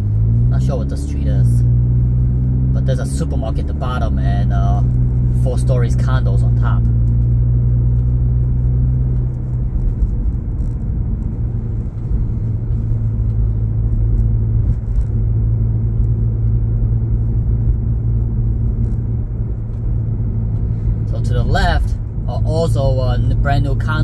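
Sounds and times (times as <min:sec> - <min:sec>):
car engine and tyres rumbling: 0:00.0 - 0:24.0.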